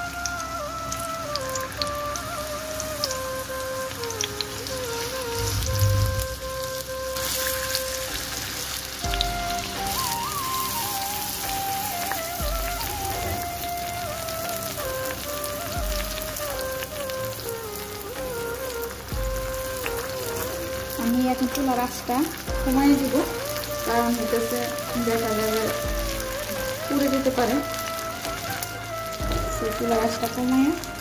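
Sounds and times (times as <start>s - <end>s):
fish sizzling in hot oil: 0.0s - 31.0s
instrumental music with low beat: 0.0s - 31.0s.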